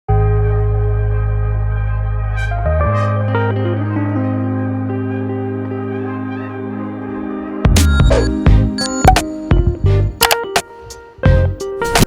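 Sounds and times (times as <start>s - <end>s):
sustained organ chord: 0.1s - 10.2s.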